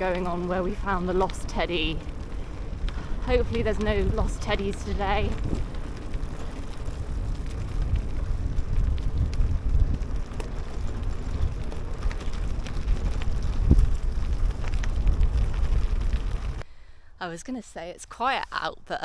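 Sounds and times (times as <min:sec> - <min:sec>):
bike clicks and knocks: 0:00.0 - 0:16.6
wind rumbling on microphone: 0:00.0 - 0:16.6.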